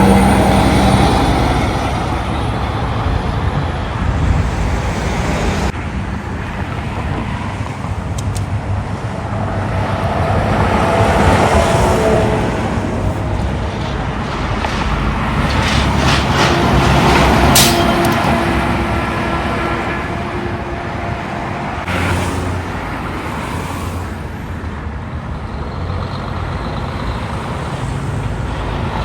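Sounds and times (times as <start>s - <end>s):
trucks and cars passing: 0.0s - 29.0s.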